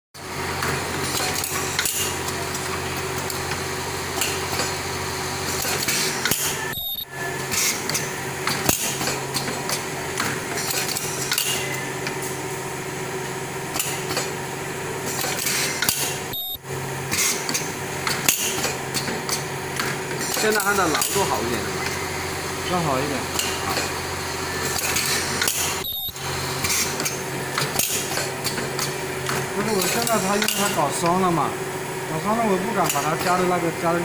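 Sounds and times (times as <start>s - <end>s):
welding machine running: 0.2s - 34.0s.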